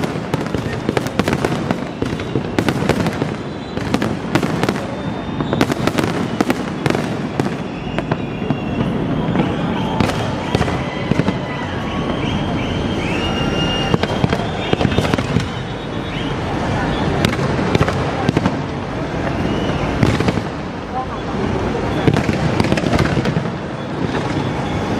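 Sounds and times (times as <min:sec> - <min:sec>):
fireworks bangs and crackling: 0:00.0 - 0:24.9
high whistling fireworks: 0:00.0 - 0:24.9.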